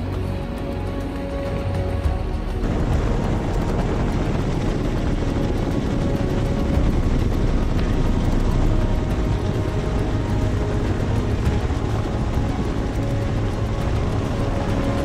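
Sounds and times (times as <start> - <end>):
helicopter rotor and engine rumble: 0.0 - 15.0.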